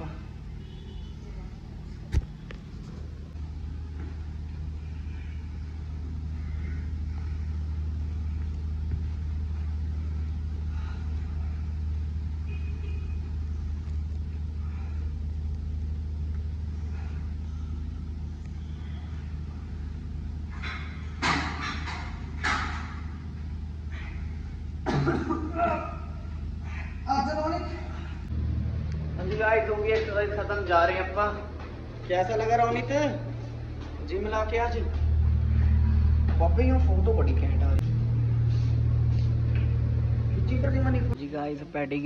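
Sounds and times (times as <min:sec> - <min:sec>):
vehicle rumble: 0:00.0 - 0:41.2.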